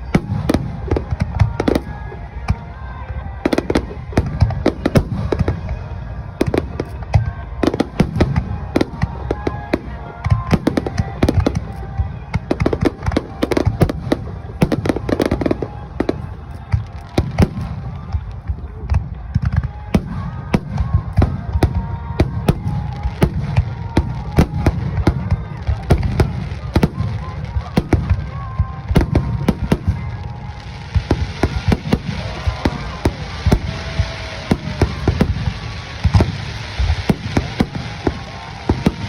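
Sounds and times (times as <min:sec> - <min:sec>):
fireworks bursting: 0:00.0 - 0:39.0
music playing: 0:00.0 - 0:39.0.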